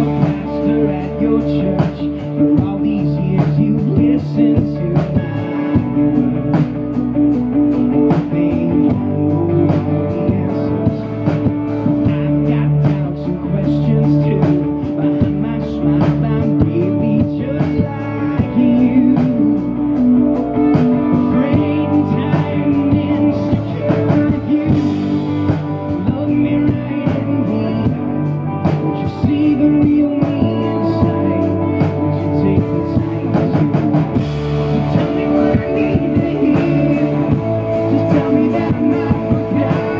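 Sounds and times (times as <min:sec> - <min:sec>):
man singing: 0:00.0 - 0:07.0, 0:07.6 - 0:39.9
drum kit beat: 0:00.0 - 0:39.9
electric guitar: 0:00.0 - 0:39.9.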